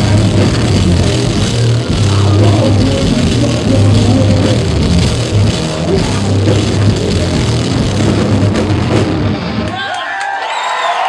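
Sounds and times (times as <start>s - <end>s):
metal band playing live: 0.0s - 10.0s.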